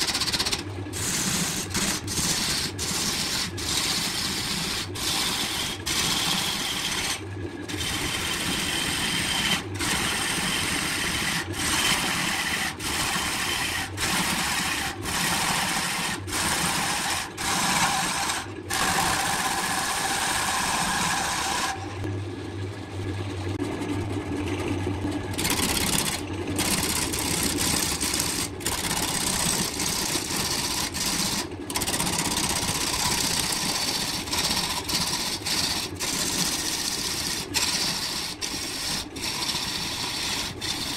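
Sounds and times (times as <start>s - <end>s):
gouge scraping wood: 0.0s - 7.2s, 7.8s - 20.2s, 25.4s - 40.9s
lathe humming: 0.0s - 21.9s, 25.3s - 40.9s.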